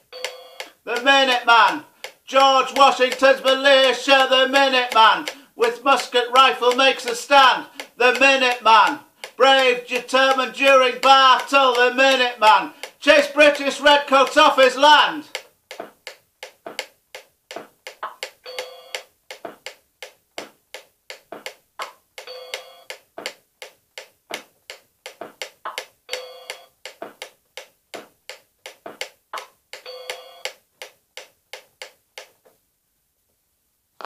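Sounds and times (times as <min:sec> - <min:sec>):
metronome ticking: 0:00.0 - 0:32.3.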